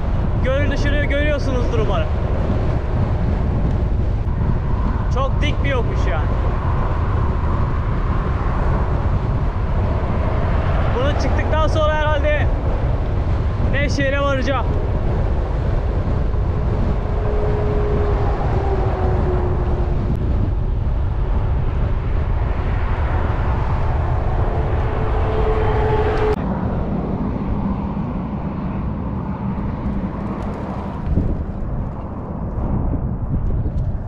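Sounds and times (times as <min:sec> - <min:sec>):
bicycle road noise: 0:00.0 - 0:34.0
wind rumbling on microphone: 0:00.0 - 0:34.0.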